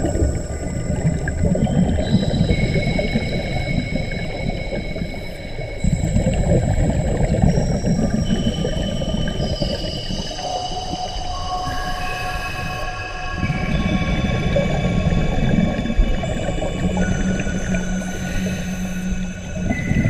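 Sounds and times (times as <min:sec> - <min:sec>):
underwater exhaust bubbles: 0:00.0 - 0:12.8, 0:13.4 - 0:20.0.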